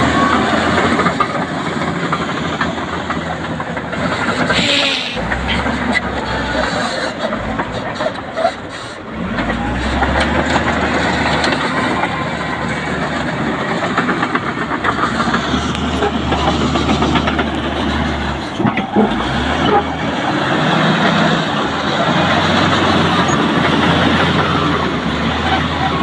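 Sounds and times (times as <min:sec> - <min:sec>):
diesel engine running: 0:00.0 - 0:26.0
steel tracks clattering: 0:00.0 - 0:26.0.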